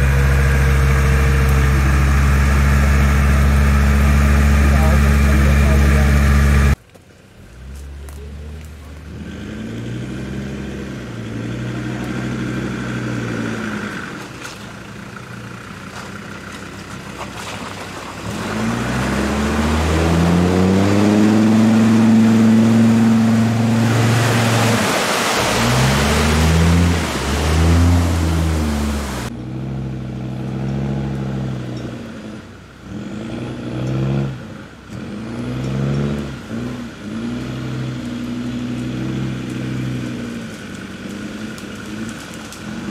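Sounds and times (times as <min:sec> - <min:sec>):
diesel engine revving: 0:00.0 - 0:06.8, 0:07.4 - 0:42.9
mud and water spraying: 0:00.0 - 0:29.4, 0:32.9 - 0:42.9.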